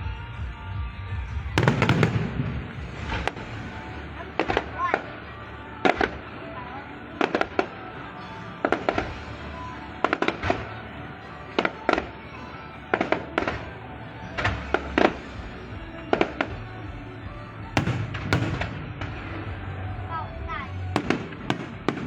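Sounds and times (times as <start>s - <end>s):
fireworks bangs: 1.5s - 22.0s.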